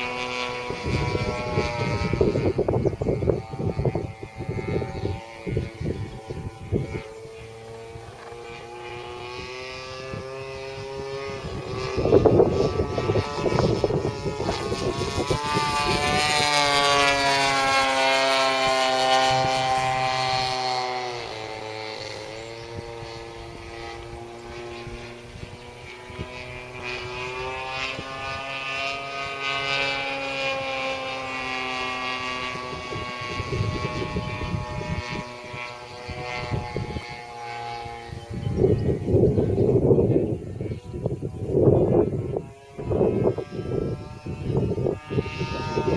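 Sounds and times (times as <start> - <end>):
low rumbling gusts: 0.0 - 45.9
model airplane motor: 0.0 - 45.9.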